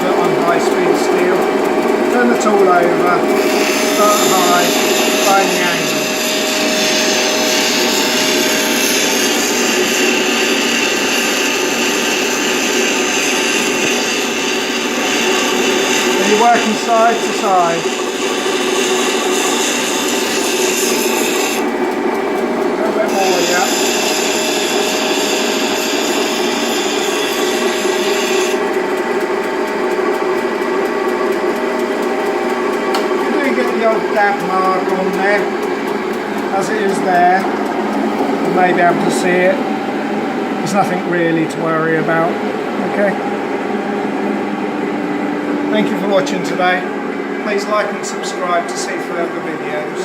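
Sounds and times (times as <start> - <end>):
bench grinder grinding chisel: 0.0 - 41.6.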